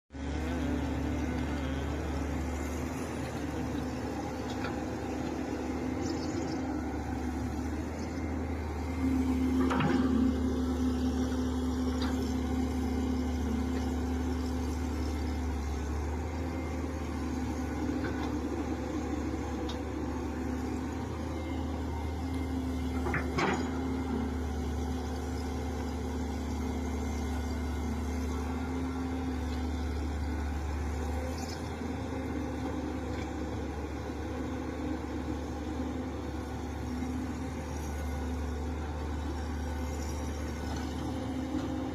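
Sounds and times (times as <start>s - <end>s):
diesel engine running: 0.1s - 41.9s.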